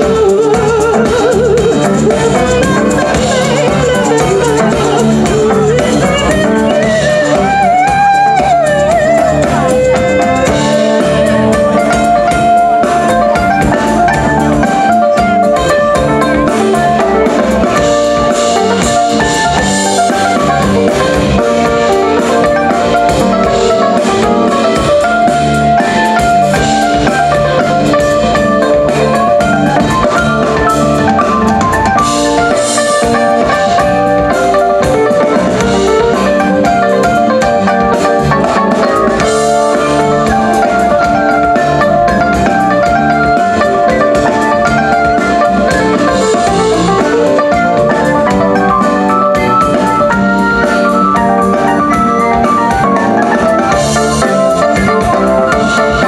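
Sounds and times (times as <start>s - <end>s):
drums steady beat: 0.0s - 56.0s
folk band playing live: 0.0s - 56.0s.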